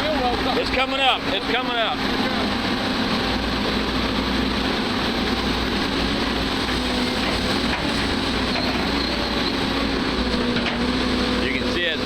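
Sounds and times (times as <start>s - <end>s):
diesel engine under load: 0.0s - 12.0s
hydraulics straining: 0.2s - 12.0s.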